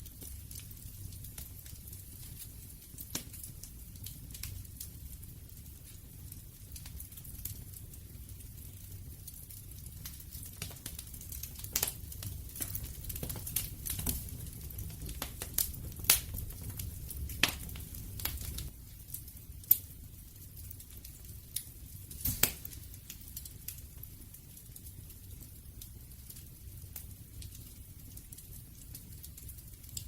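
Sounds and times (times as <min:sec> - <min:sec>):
campfire crackling: 0:00.0 - 0:30.0
low rumble of flames: 0:00.0 - 0:30.0.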